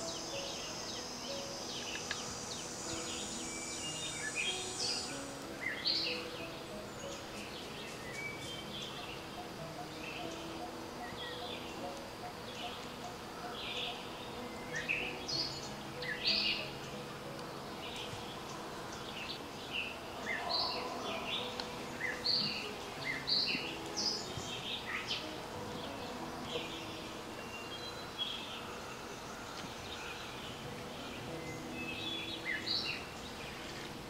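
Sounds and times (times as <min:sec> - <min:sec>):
birds chirping: 0:00.0 - 0:34.0
outdoor background noise: 0:00.0 - 0:34.0.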